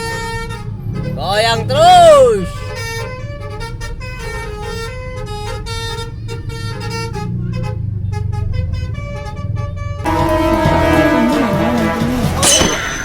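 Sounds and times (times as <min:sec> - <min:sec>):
low engine rumble: 0:00.0 - 0:13.0
multi-tone air horn melody: 0:00.0 - 0:13.0.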